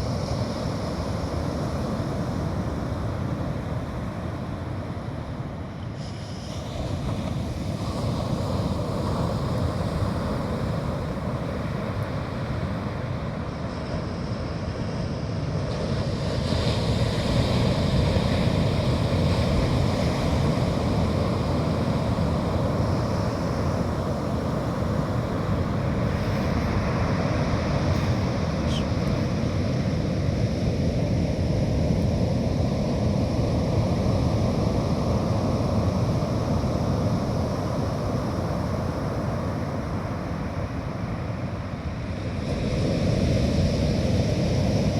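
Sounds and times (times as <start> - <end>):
sea surf rushing: 0.0 - 44.9.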